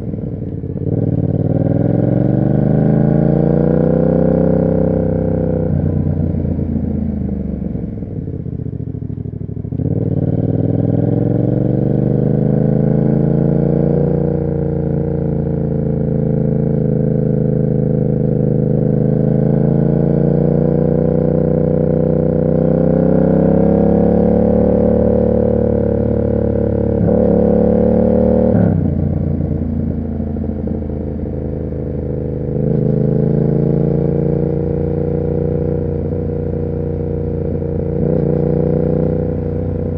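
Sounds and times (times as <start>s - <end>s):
motorcycle engine on the road: 0.0s - 39.9s.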